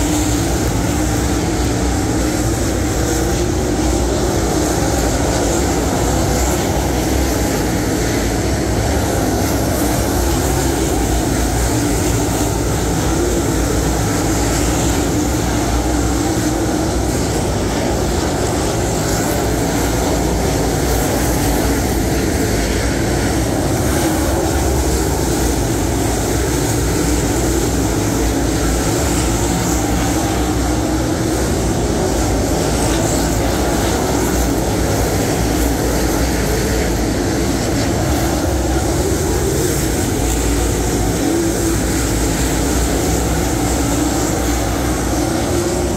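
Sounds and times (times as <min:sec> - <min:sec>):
race car engines droning: 0:00.0 - 0:45.9.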